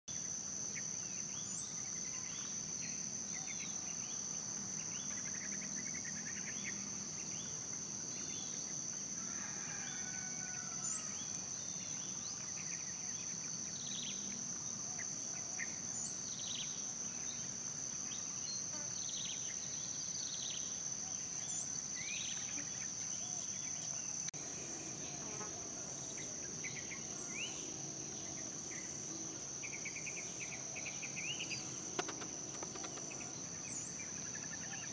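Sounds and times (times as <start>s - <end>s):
chorus of crickets: 0.1s - 34.9s
short insect chirps: 0.1s - 34.9s.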